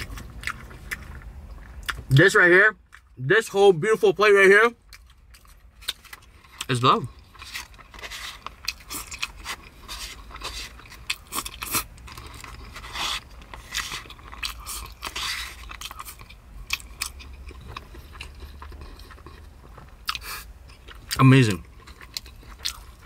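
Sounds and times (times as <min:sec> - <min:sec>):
person chewing crunchy food: 0:00.0 - 0:02.2, 0:04.8 - 0:23.0.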